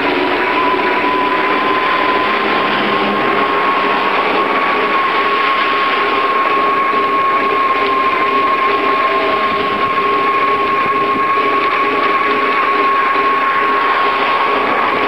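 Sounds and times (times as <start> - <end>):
bicycle tyres and wind rushing: 0.0 - 15.0
thin high whine: 0.0 - 15.0.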